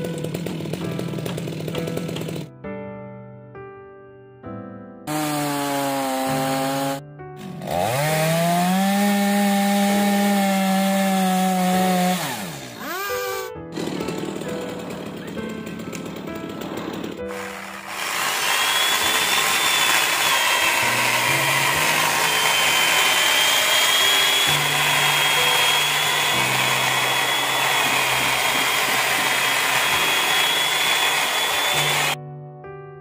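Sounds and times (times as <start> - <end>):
power tool cutting wood: 0.0 - 2.5, 5.1 - 32.2.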